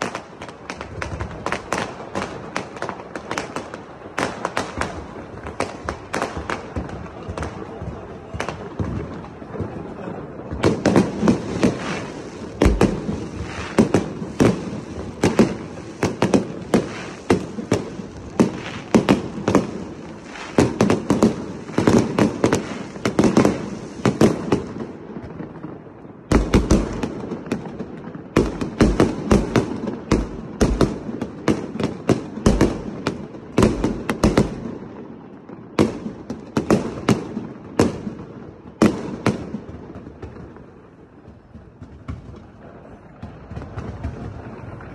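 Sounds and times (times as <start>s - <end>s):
deep fireworks booms: 0.0s - 44.9s.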